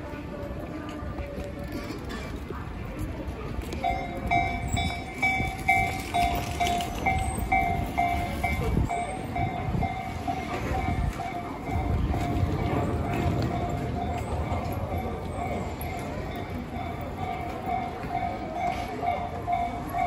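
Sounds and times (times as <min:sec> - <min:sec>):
low street noise: 0:00.0 - 0:20.0
level-crossing alarm ringing: 0:03.9 - 0:20.0.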